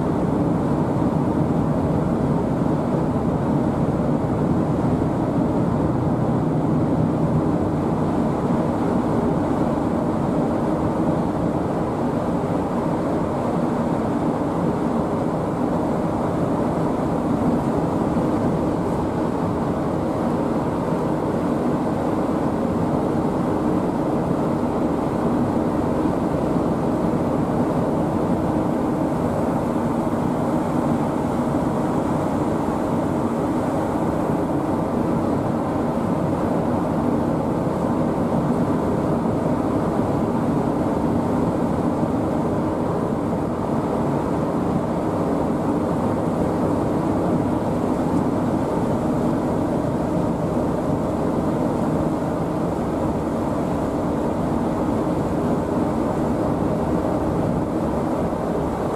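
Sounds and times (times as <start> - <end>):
engine drone with low hum: 0.0 - 58.9.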